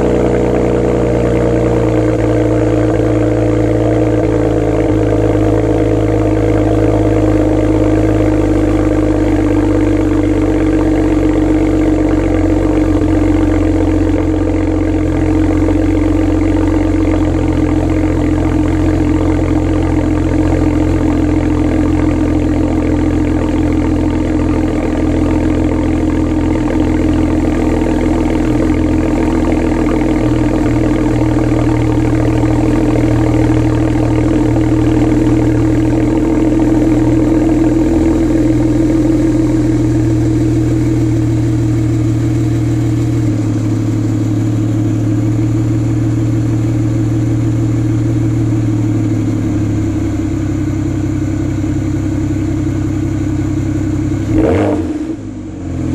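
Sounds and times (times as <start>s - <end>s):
car exhaust idling: 0.0s - 55.9s.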